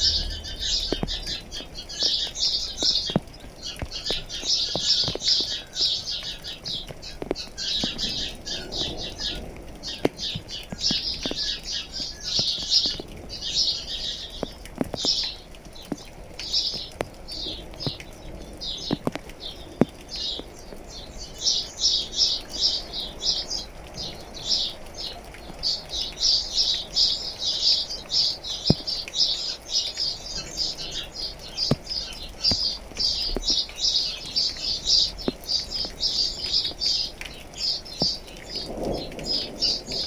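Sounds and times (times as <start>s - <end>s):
rain drips tapping: 0.0s - 40.0s
small birds chirping: 0.0s - 40.0s.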